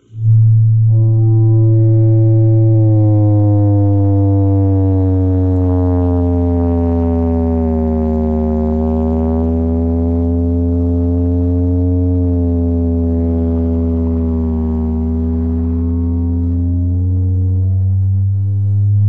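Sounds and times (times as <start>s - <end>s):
deep bass drone: 0.0s - 19.0s
gliding tone: 0.0s - 19.0s.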